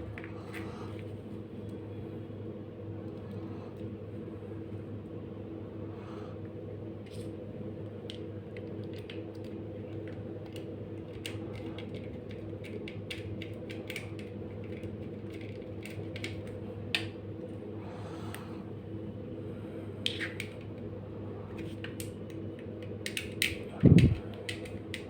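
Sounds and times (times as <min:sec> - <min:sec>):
ceiling fan motor humming: 0:00.0 - 0:25.0.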